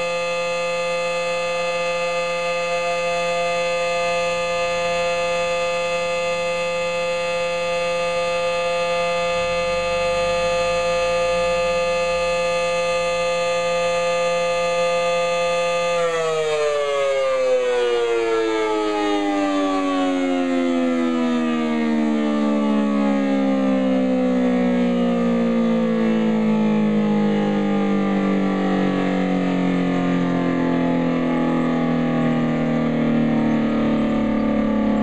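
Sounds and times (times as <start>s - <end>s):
warning siren winding down: 0.0s - 35.0s.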